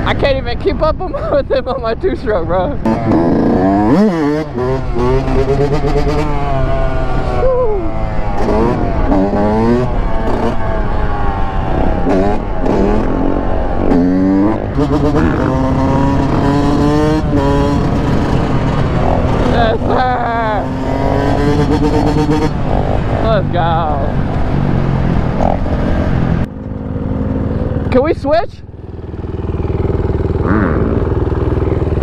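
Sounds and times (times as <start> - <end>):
dirt bike engine revving: 2.2 - 32.0.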